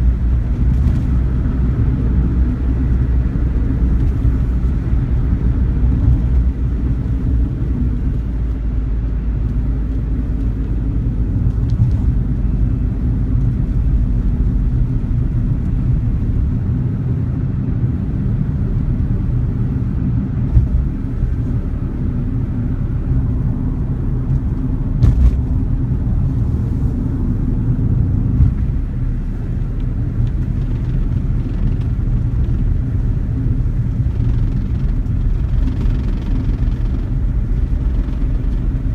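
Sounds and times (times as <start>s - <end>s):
car interior road rumble: 0.0s - 38.9s.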